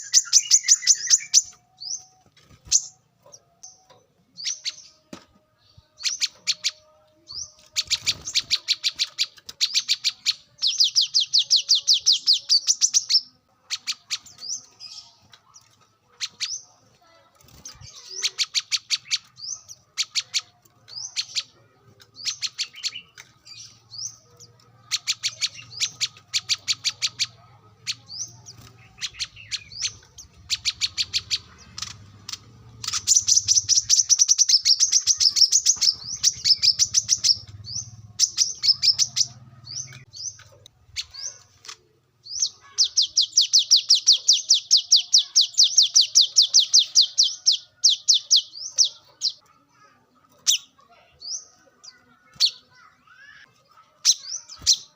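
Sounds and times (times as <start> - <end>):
bird chirping and trilling: 0.0 - 54.9.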